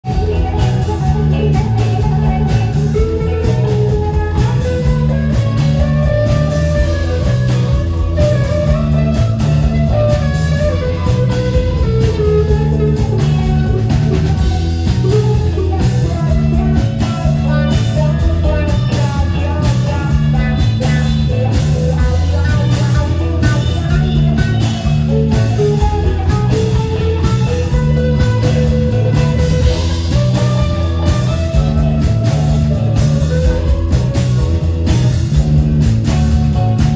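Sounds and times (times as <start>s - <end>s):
lead guitar line: 0.0s - 36.9s
rock band playing: 0.0s - 36.9s.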